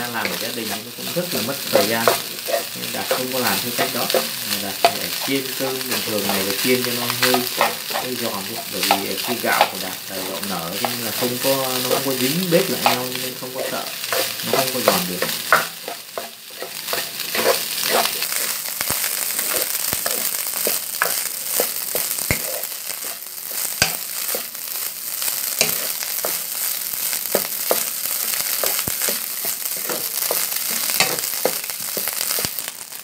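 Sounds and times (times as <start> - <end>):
spatula scraping and knocking pan: 0.0 - 32.7
rice sizzling in hot oil: 0.0 - 33.0.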